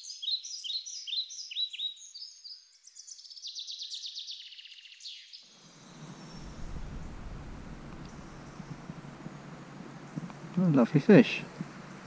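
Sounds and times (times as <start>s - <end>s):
songbird chirping and trilling: 0.0s - 12.0s.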